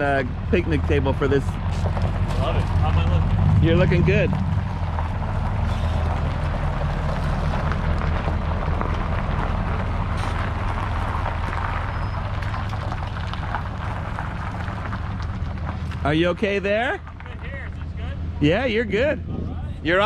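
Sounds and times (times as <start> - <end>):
tyres rolling over gravel: 0.0 - 18.0
truck engine running low: 0.0 - 20.0.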